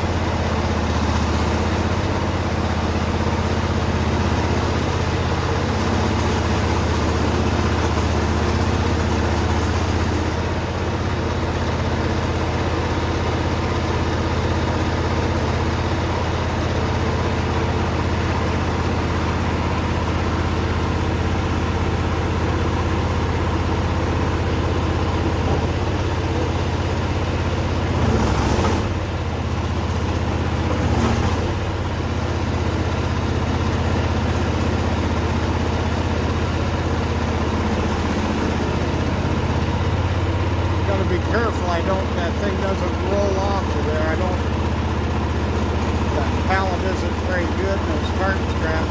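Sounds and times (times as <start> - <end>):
engine humming: 0.0 - 48.9.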